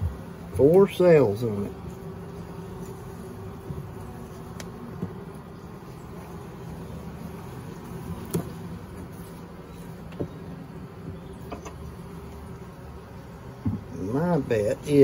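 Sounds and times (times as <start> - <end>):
honeybees buzzing: 0.0 - 15.0
knocks of wooden hive frames: 0.0 - 15.0.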